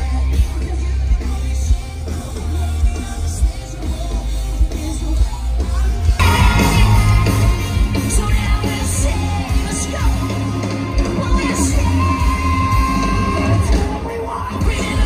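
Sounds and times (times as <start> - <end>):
heavy rock band playing: 0.0 - 15.0
sung and shouted vocals: 0.0 - 15.0.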